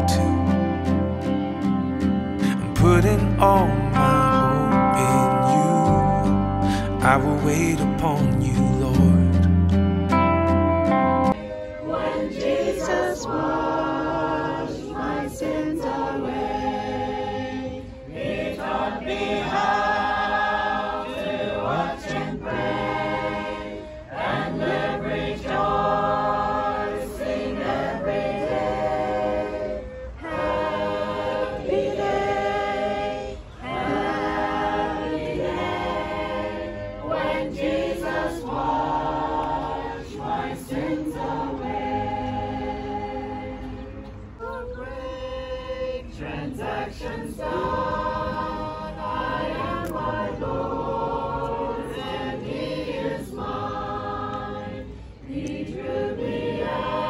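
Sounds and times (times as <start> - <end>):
group singing a hymn: 0.0 - 9.3, 10.9 - 57.0.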